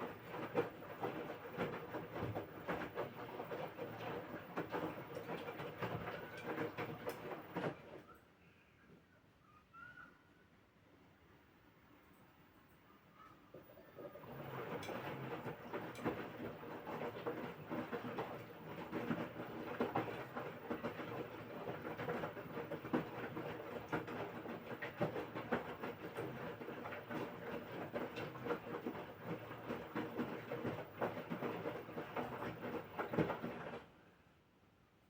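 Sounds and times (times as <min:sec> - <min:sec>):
washing machine drum tumbling: 0:00.0 - 0:07.8, 0:13.6 - 0:33.9.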